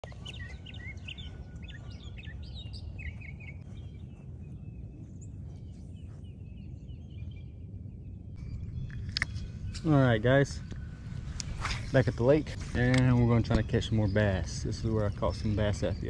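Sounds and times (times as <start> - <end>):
low rumble: 0.0 - 15.2
small birds chirping: 0.0 - 16.0.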